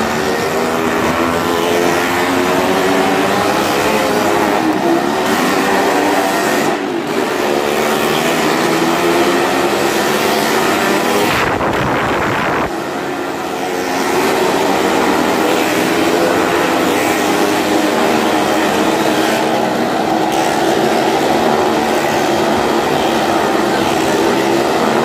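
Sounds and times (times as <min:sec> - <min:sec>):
motorcycle engines running hard: 0:00.0 - 0:25.0
motorcycle passing close: 0:00.0 - 0:25.0.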